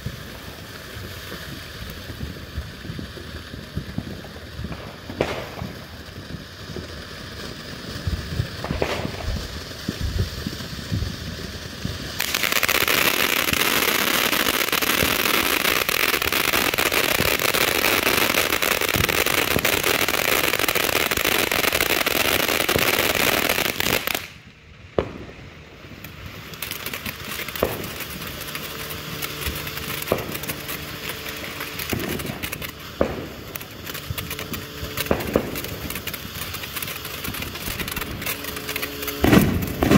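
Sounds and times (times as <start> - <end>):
firework fountain hissing: 0.0 - 39.9
firework pops and crackle: 0.0 - 39.9.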